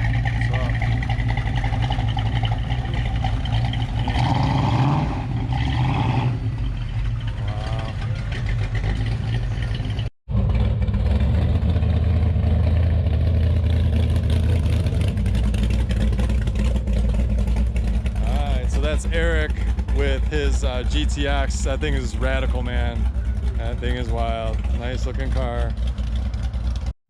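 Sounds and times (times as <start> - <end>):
car engines rumbling: 0.0 - 26.9.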